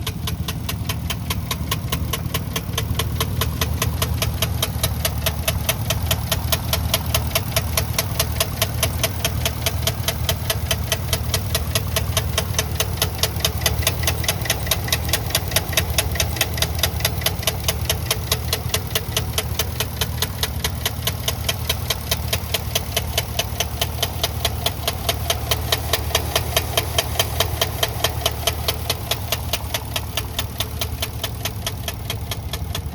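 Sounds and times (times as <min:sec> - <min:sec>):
car engine idling with knock: 0:00.0 - 0:32.9.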